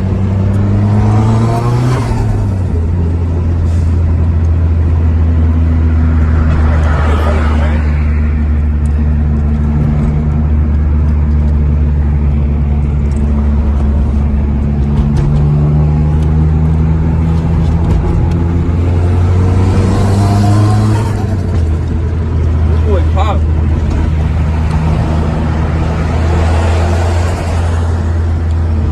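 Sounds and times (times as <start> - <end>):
car engine pulling under load: 0.0 - 28.9.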